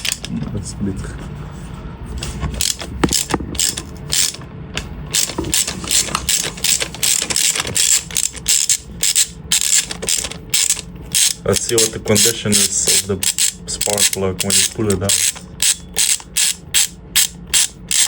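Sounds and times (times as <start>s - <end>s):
socket ratchet clicking: 2.6s - 18.0s.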